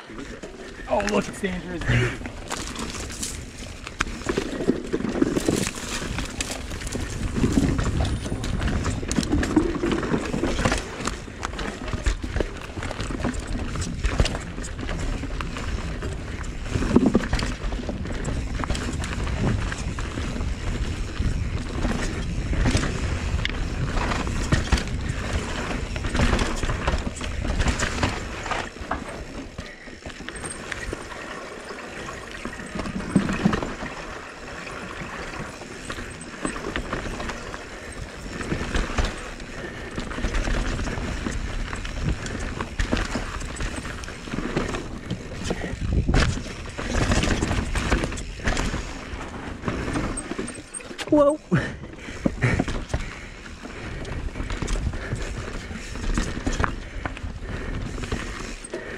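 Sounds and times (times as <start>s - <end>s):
bike rattling and knocking: 0.0s - 58.9s.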